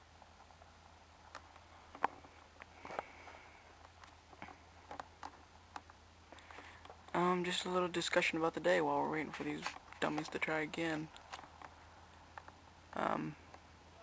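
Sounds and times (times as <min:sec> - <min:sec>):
low steady hum: 0:00.0 - 0:14.0
faint clicks and ticks: 0:00.2 - 0:07.2, 0:09.3 - 0:13.7.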